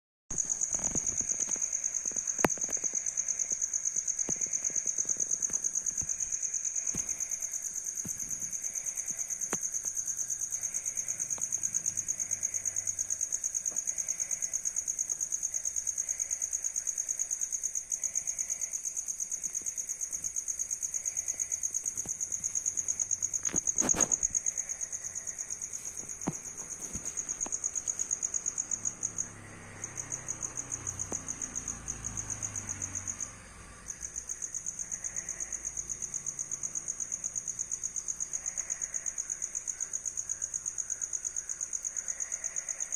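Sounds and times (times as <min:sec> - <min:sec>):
cricket chirping: 0:00.3 - 0:42.9.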